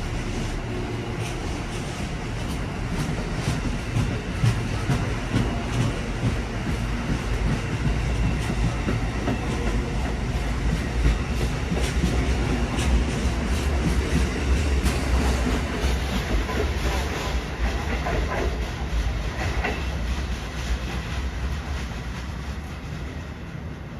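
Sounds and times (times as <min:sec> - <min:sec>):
train rumbling: 0:00.0 - 0:23.9.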